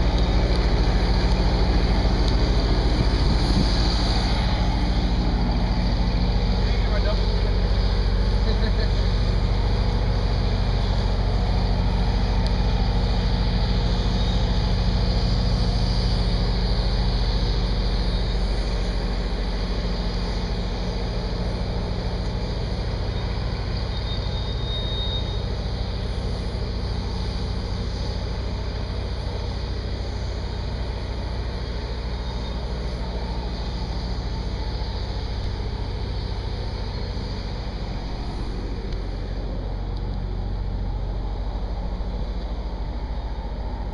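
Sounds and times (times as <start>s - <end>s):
even high hiss: 0.0s - 43.9s
low engine drone: 0.0s - 43.9s.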